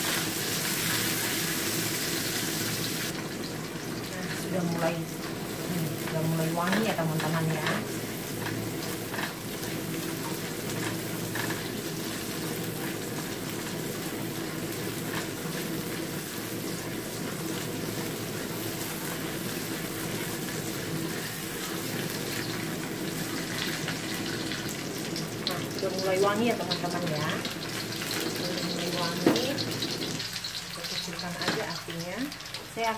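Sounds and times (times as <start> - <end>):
food sizzling in hot oil: 0.0 - 32.9.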